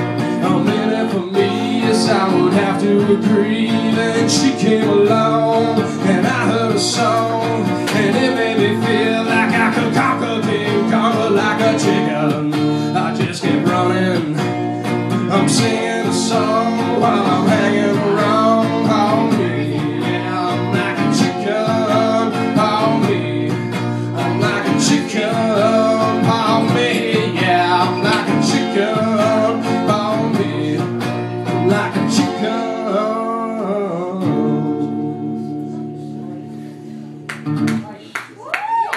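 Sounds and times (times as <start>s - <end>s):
electric guitar playing: 0.0s - 38.0s.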